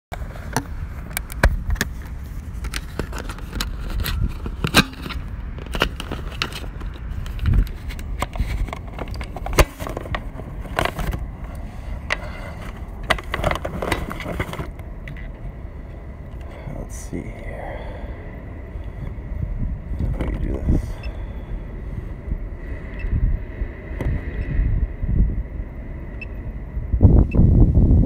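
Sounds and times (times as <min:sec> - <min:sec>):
low rumble: 0:00.2 - 0:28.0.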